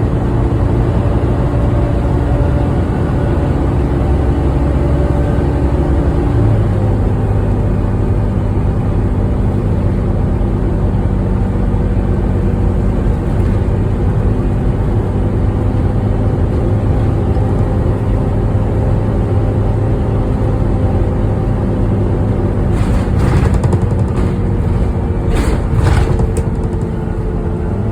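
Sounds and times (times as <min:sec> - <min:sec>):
bus engine cooling fan drone: 0:00.0 - 0:27.9
diesel bus engine: 0:00.0 - 0:27.9.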